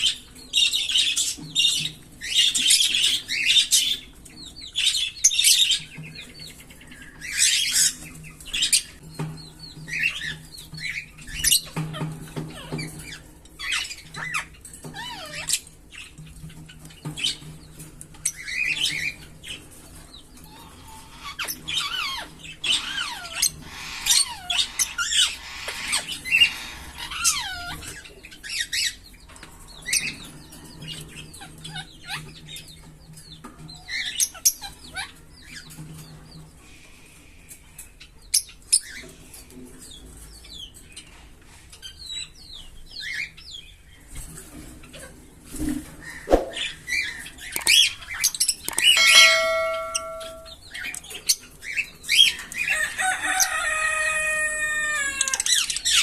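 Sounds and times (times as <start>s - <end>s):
lovebirds chirping and squawking: 0.0s - 56.0s.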